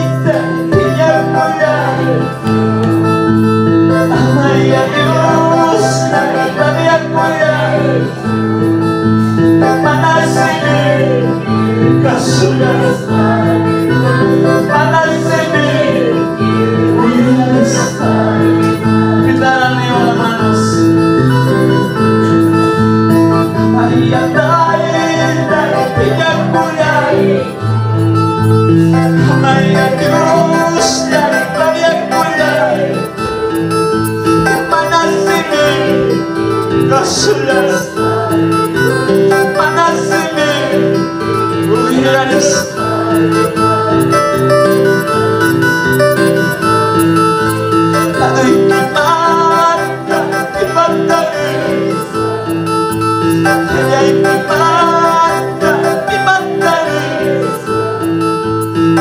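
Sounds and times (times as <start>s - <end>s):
worship music on electronic keyboard: 0.0s - 59.0s.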